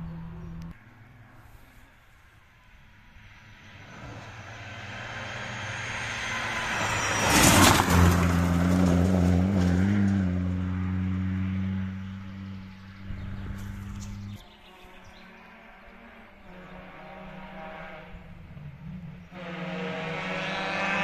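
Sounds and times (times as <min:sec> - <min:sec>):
rally car engine passing: 0:02.9 - 0:21.0.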